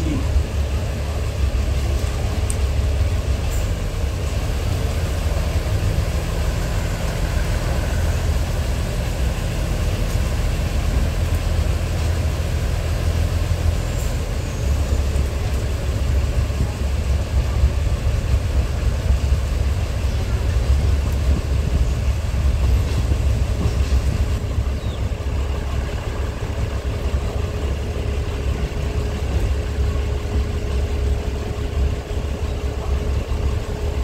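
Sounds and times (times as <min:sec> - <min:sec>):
railcar diesel engine rumble: 0:00.0 - 0:34.0
train running gear on track: 0:00.0 - 0:34.0.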